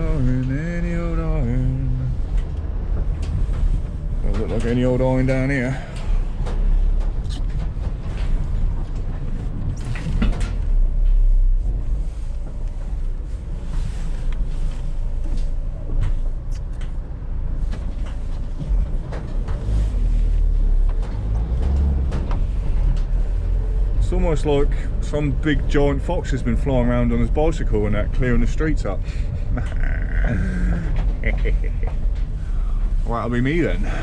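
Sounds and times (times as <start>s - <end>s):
van engine and road rumble: 0.0s - 34.0s.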